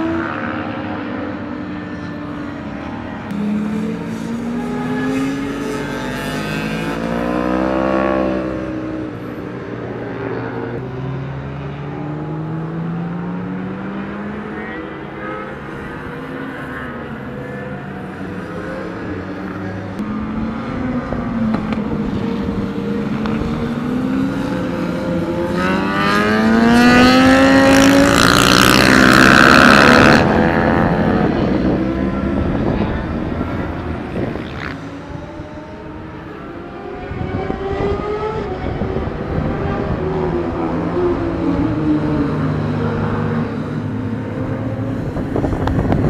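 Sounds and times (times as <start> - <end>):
race car engines accelerating: 0.0 - 46.0.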